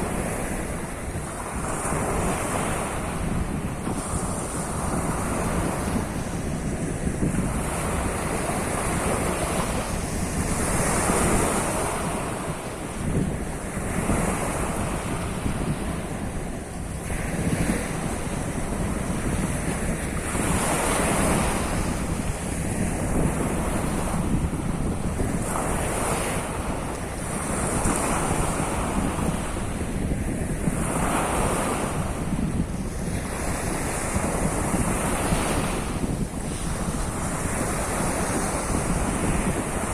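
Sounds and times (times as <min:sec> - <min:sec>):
waves washing onto shore: 0:00.0 - 0:39.9
wind buffeting microphone: 0:00.0 - 0:39.9.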